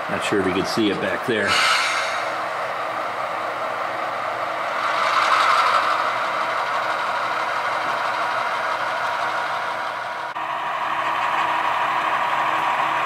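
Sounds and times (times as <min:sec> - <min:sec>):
model locomotive diesel engine sound: 0:00.0 - 0:13.0.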